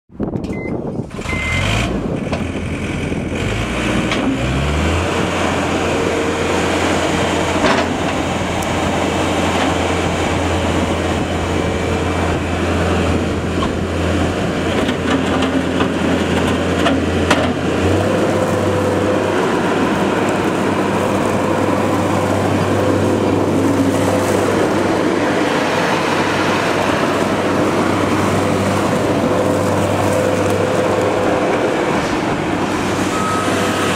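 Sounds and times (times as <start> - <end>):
diesel engine running: 1.0 - 33.9.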